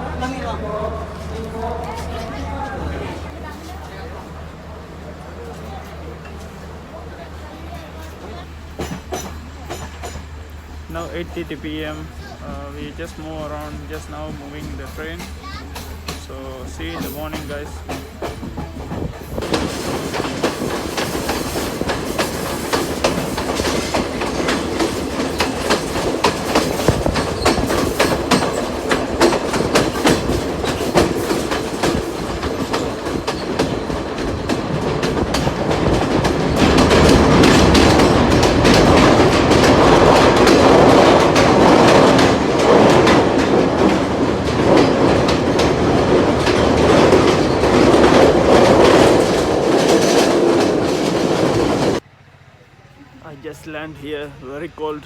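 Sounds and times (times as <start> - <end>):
train wheels clattering on rails: 5.3 - 52.0.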